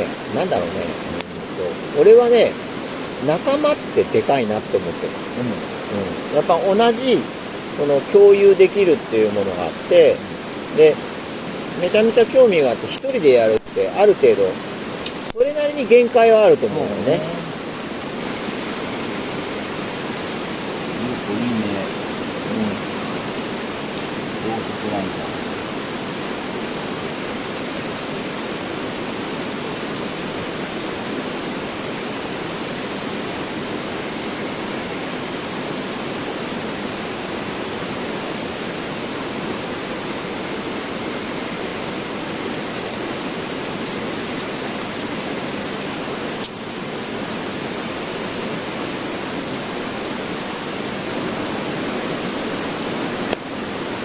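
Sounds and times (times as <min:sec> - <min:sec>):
river rushing: 0:00.0 - 0:54.0.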